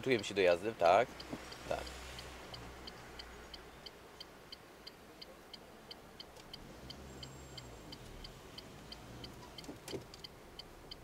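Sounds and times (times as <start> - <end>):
turn signal ticking: 0.0 - 11.0.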